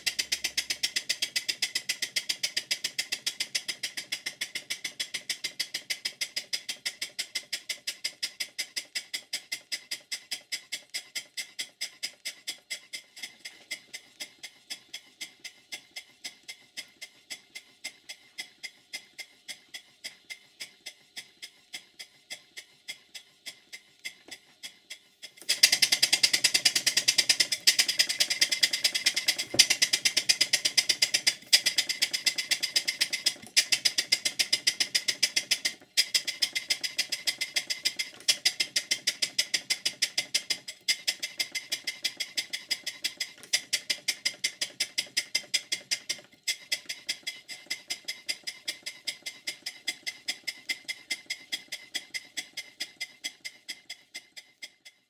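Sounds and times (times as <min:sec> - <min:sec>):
model steam engine hissing beats: 0:00.0 - 0:55.0.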